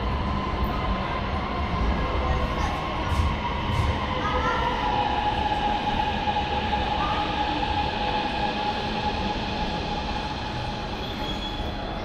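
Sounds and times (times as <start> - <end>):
metro train rumble and whine: 0.0 - 12.0.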